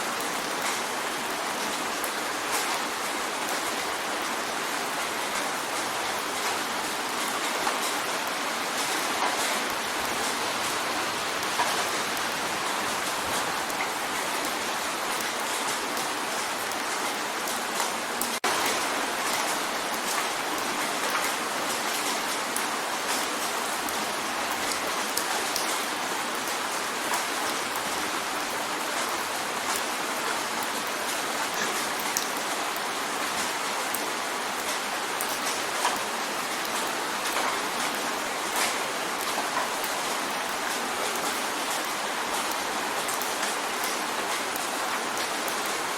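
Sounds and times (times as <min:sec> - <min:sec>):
rain drumming on a window: 0:00.0 - 0:45.9.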